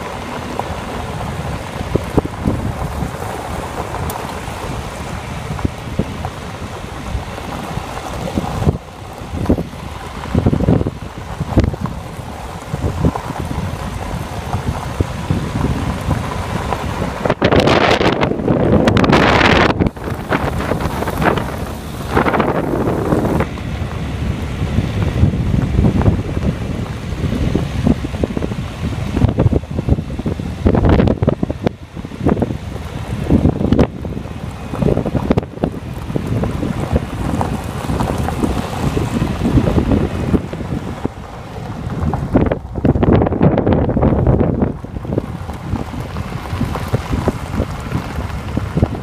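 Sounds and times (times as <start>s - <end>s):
vehicle rumbling on gravel road: 0.0s - 49.0s
wind buffeting microphone: 0.0s - 49.0s.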